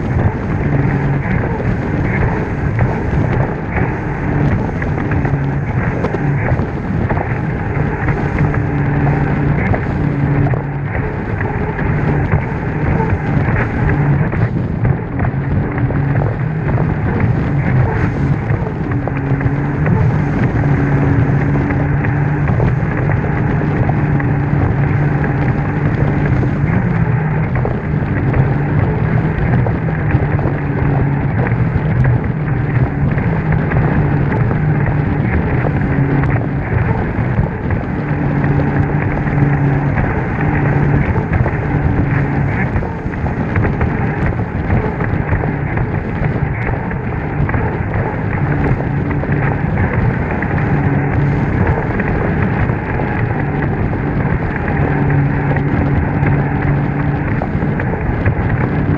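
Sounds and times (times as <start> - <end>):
jet ski engine drone: 0.0 - 58.9
wind on microphone: 0.0 - 58.9.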